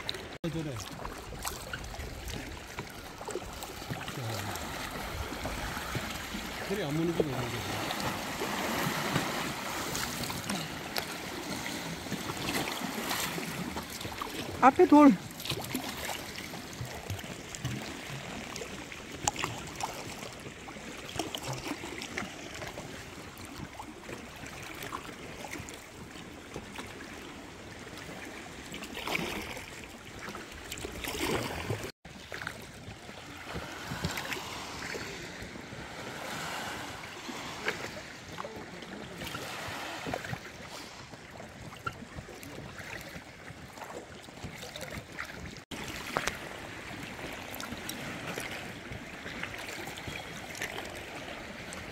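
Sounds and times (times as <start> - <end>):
water lapping and splashing: 0.0 - 51.9.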